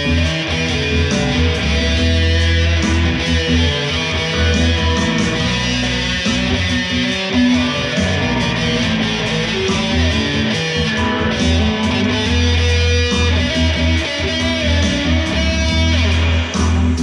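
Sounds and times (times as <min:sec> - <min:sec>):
electric guitar playing: 0:00.0 - 0:17.0
low bass notes: 0:00.0 - 0:17.0.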